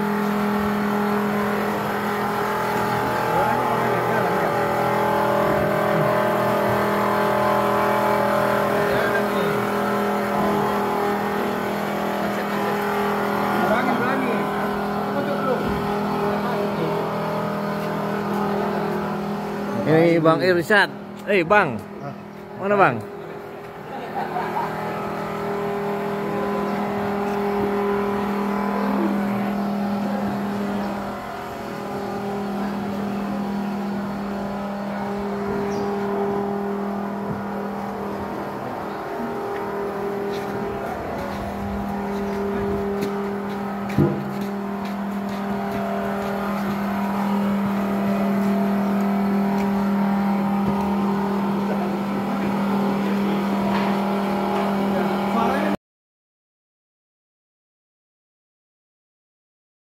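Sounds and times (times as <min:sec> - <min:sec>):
excavator diesel engine running: 0:00.0 - 0:55.8.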